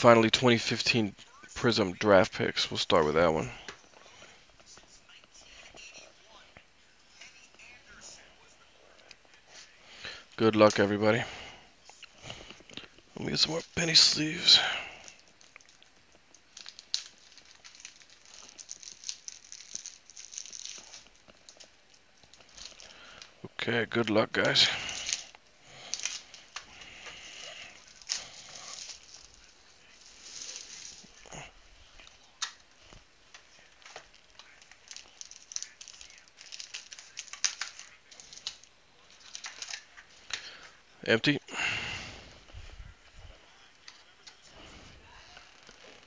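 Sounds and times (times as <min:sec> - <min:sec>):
thin plastic crinkling: 0:00.0 - 0:40.9, 0:42.0 - 0:46.0.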